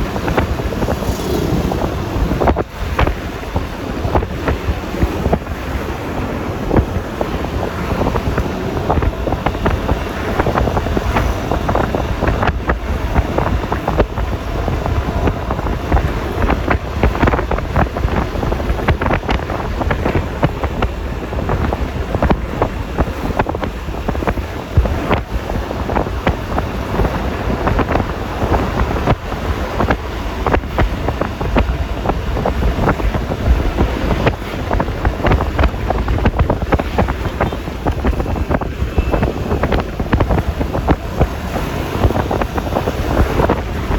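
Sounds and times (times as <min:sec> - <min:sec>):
road noise: 0:00.0 - 0:43.9
scooter engine running: 0:00.0 - 0:43.9
wind buffeting microphone: 0:00.0 - 0:43.9.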